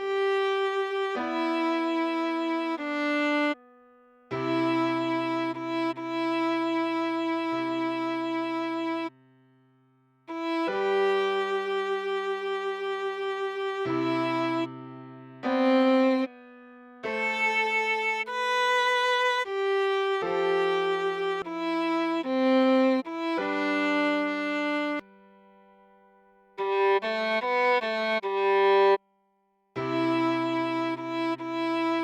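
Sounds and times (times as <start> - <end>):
viola playing slow melody: 0.0 - 9.2, 10.3 - 25.6, 26.6 - 29.0, 29.8 - 32.0.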